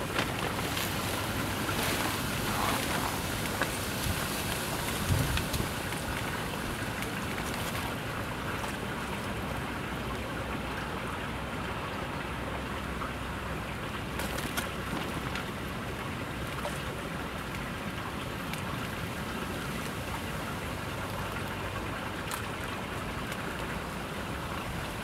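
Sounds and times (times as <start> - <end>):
stream water flowing: 0.0 - 25.0.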